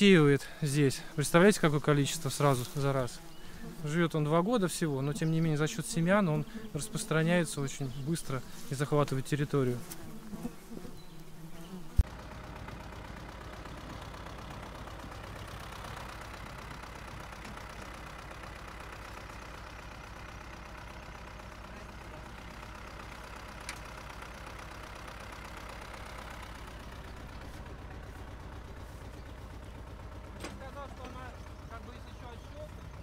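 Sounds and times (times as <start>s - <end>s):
tractor engine rumbling: 0.0s - 6.8s, 12.0s - 33.0s.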